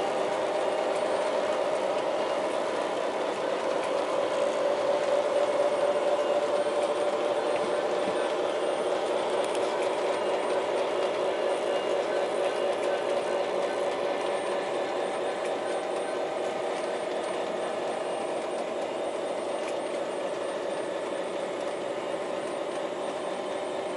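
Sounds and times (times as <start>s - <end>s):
model train wheels on rails: 0.0s - 23.9s.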